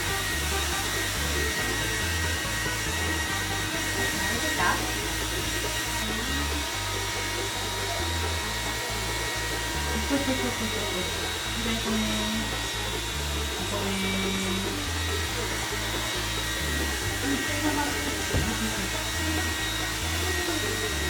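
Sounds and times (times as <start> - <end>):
background music with bass line: 0.0 - 21.0
hair dryer blowing: 0.0 - 21.0.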